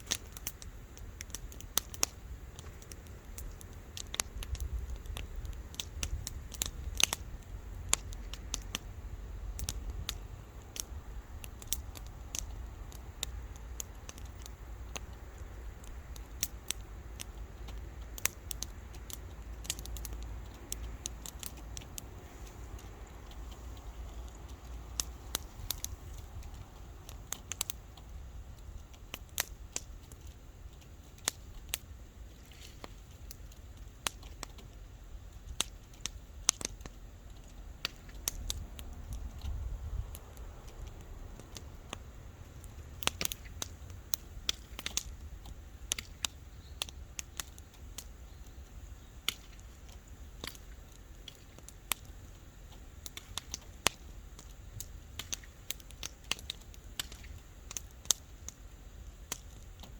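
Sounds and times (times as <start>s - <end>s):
campfire crackling and popping: 0.0s - 59.9s
low steady rumble: 0.0s - 59.9s.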